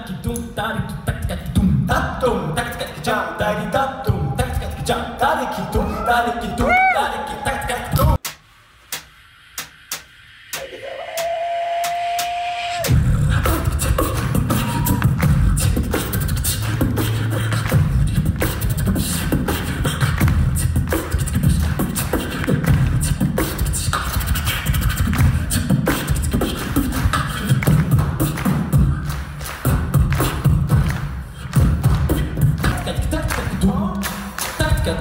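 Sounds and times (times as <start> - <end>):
beatboxing into a microphone: 0.0 - 8.4, 10.5 - 35.0.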